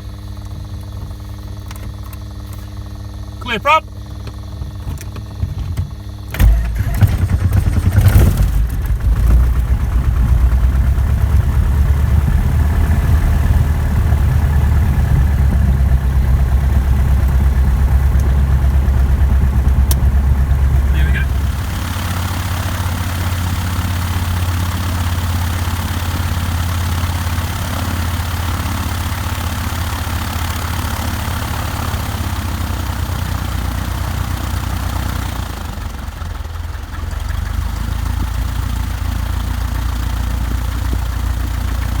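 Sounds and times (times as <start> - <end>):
propeller aircraft engine idling: 0.0 - 42.0.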